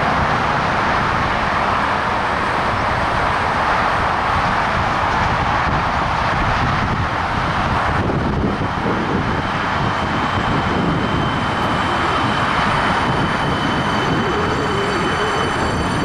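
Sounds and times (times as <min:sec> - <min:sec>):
electric train rushing: 0:00.0 - 0:16.0
high steady whine: 0:00.0 - 0:16.0.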